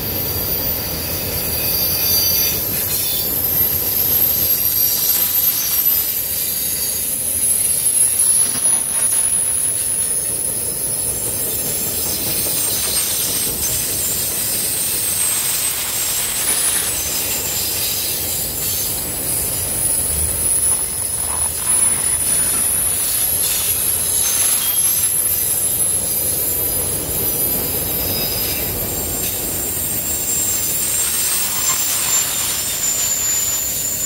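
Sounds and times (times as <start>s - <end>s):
high-pitched wheel squeal: 0.0s - 34.0s
train wheels rumbling on rail: 0.0s - 34.0s.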